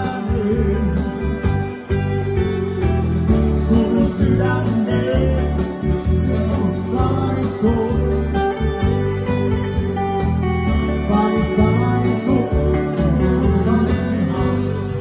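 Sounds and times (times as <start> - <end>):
electric guitar: 0.0 - 15.0
live band playing: 0.0 - 15.0.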